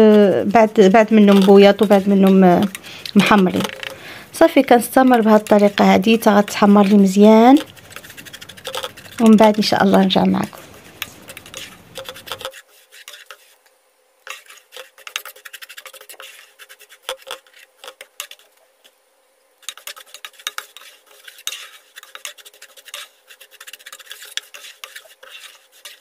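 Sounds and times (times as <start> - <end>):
utensil scraping frying pan: 0.0 - 13.6, 14.2 - 18.6, 19.6 - 26.0.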